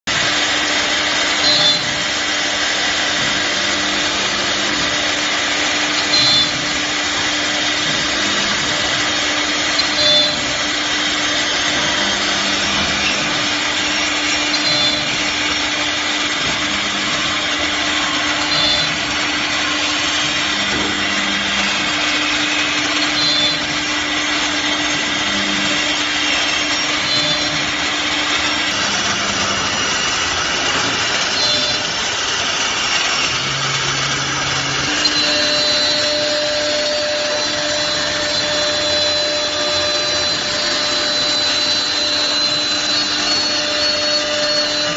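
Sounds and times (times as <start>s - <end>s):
router spindle whining: 0.0s - 44.9s
bit cutting plywood: 0.1s - 44.9s.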